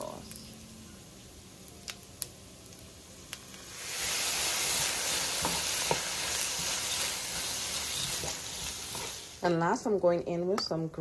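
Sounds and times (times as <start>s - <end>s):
rice sizzling in a wok: 0.0s - 9.9s.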